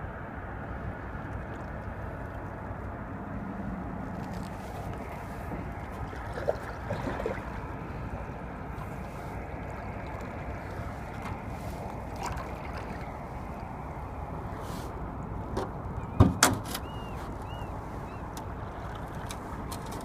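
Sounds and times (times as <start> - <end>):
water lapping against hull: 0.6 - 20.0.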